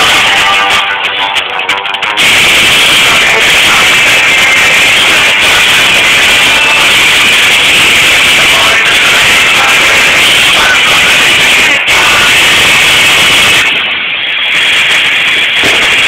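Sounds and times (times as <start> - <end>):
loud harsh noisy music: 0.0 - 16.0.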